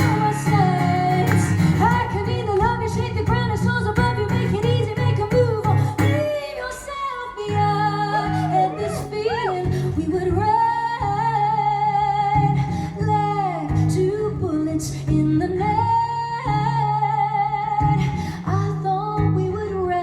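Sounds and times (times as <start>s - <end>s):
strummed guitar: 0.0s - 20.0s
woman singing: 0.0s - 20.0s.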